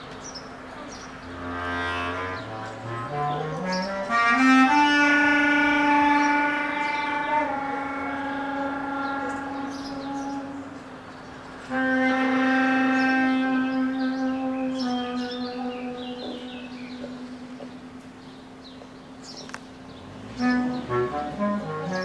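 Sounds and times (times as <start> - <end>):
bass clarinet low notes: 1.2 - 18.7, 20.0 - 22.0.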